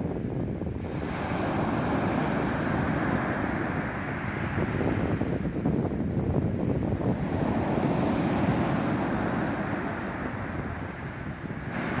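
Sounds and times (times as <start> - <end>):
sea surf washing: 0.0 - 12.0
wind buffeting microphone: 0.0 - 12.0.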